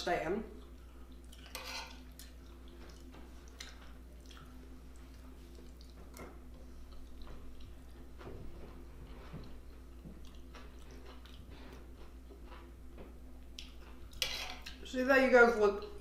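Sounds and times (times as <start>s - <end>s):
steady low hum: 0.0s - 16.0s
person chewing with wet mouth sounds: 0.5s - 14.8s.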